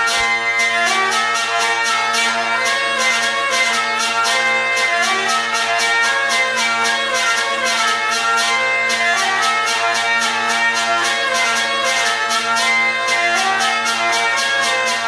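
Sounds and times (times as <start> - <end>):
hurdy-gurdy playing: 0.0 - 15.0.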